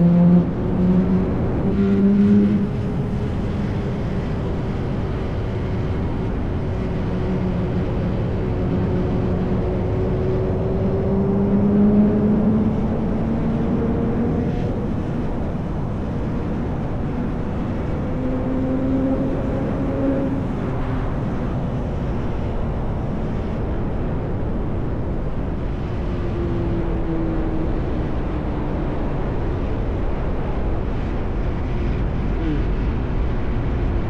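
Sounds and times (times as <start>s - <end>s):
motorcycle engine cruising: 0.0s - 29.4s
wind and road noise: 0.0s - 34.0s.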